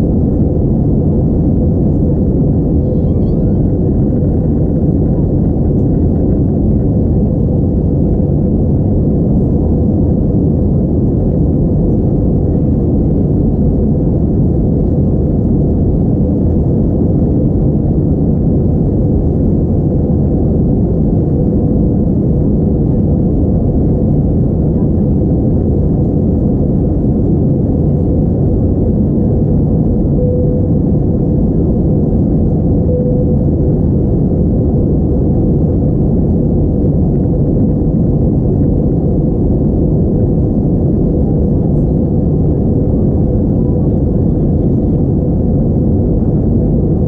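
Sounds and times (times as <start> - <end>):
airplane cabin roar: 0.0 - 47.0
faint steady hum: 0.0 - 47.0.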